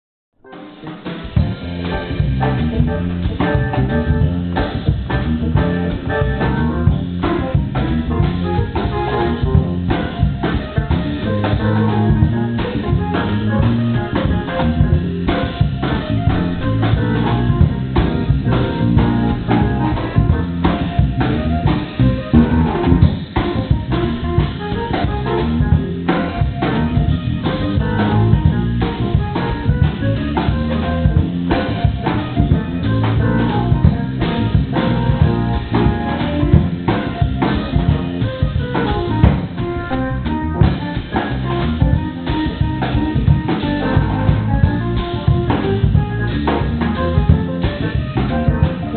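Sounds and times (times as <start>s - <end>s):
band music: 0.4s - 48.9s
drum kit beat: 0.5s - 48.9s.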